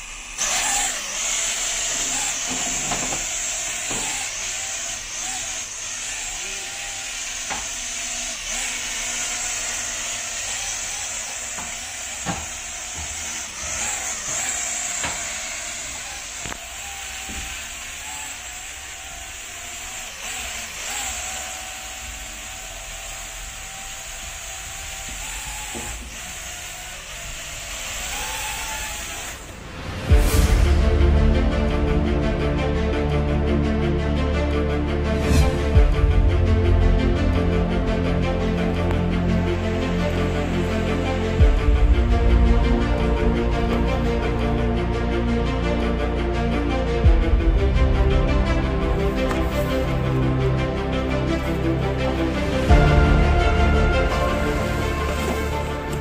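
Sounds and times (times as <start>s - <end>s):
toy aircraft motor hissing: 0.0s - 30.5s, 37.4s - 44.6s, 48.6s - 56.0s.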